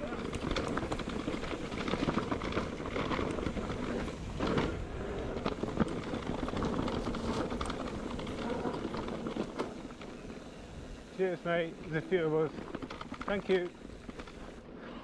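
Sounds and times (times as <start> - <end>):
bike rattling clicks and knocks: 0.0 - 14.6
tyre and wind rumble: 0.0 - 15.0.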